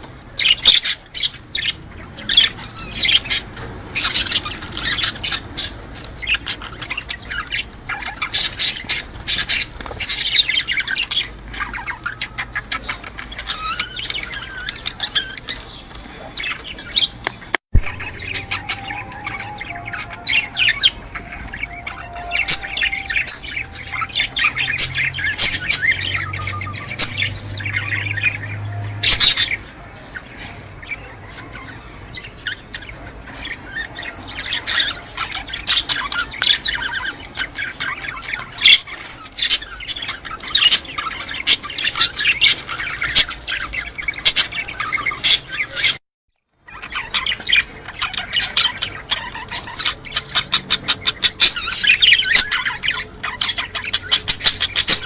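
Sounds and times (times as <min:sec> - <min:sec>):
small birds chirping and squawking: 0:00.0 - 0:55.0.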